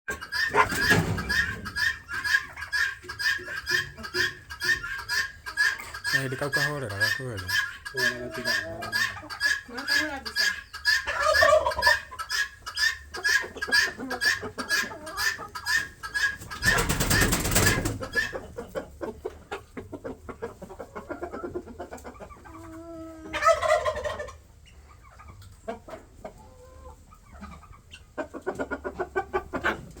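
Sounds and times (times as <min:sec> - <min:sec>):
chickens clucking: 0:00.1 - 0:30.0.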